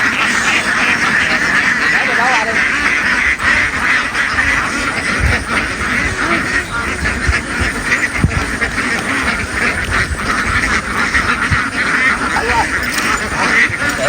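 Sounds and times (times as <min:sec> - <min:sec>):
flock of ducks quacking: 0:00.0 - 0:14.0.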